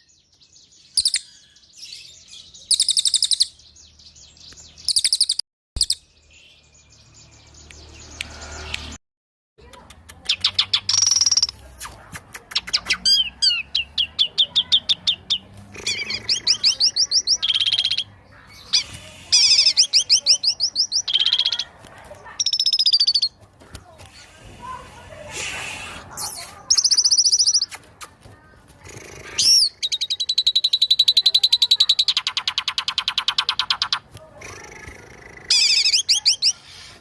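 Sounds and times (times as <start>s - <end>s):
songbirds trilling: 0.0s - 9.0s, 12.5s - 37.0s.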